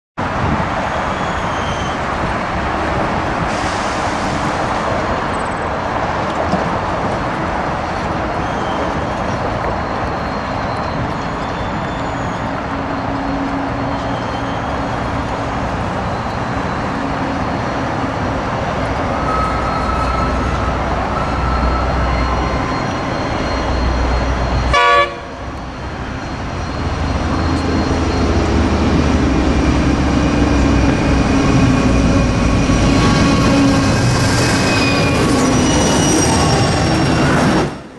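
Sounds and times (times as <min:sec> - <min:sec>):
diesel locomotive engine: 0:00.2 - 0:37.9
train rail rumble: 0:00.2 - 0:37.9.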